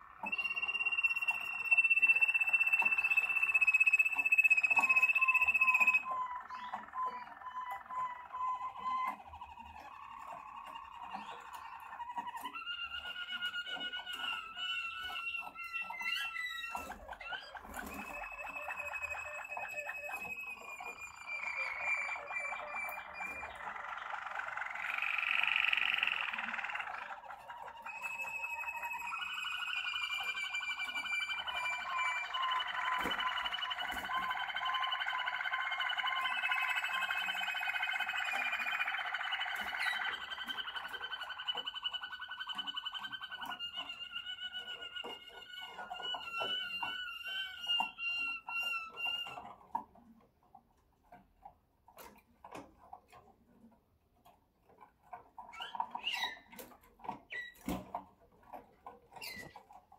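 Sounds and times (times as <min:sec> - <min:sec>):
bird call: 0:00.0 - 0:49.8
canary singing trills: 0:00.0 - 0:50.0, 0:54.8 - 0:59.9.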